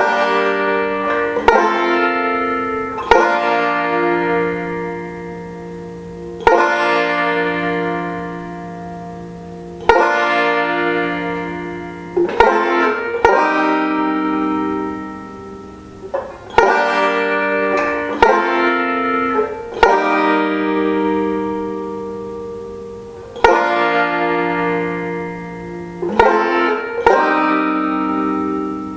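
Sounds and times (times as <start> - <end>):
banjo ringing chords: 0.0 - 28.9.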